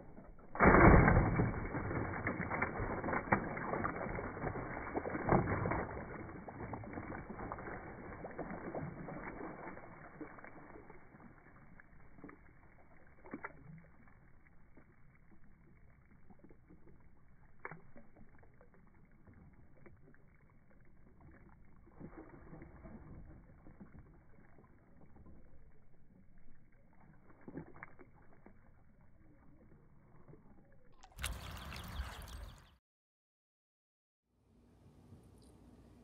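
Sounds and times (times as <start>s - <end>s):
water sloshing in plastic pool: 0.0s - 32.7s.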